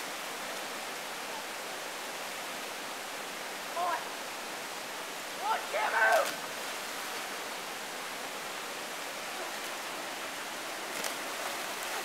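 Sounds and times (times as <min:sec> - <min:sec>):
river flowing over rocks: 0:00.0 - 0:12.0.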